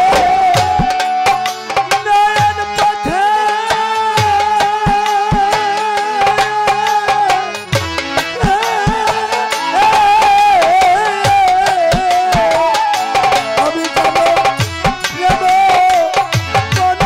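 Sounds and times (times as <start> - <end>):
harmonium holding chord: 0.0 - 17.0
man singing: 0.0 - 17.0.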